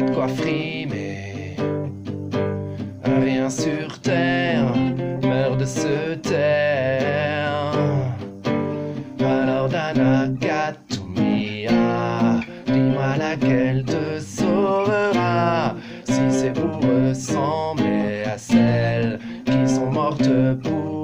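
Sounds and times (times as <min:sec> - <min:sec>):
man singing: 0:00.0 - 0:02.0, 0:03.0 - 0:21.0
strummed acoustic guitar: 0:00.0 - 0:21.0.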